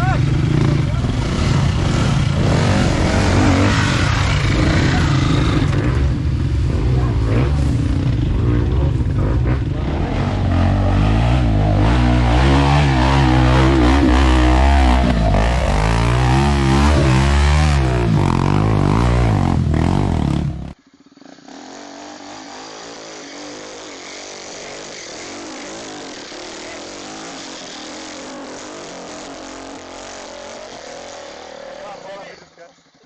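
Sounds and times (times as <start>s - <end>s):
dirt bike engine revving: 0.0s - 32.5s.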